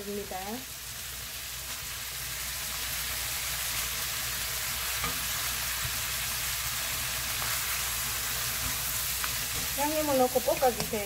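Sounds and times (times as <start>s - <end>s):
squid sizzling in hot oil: 0.0s - 11.0s.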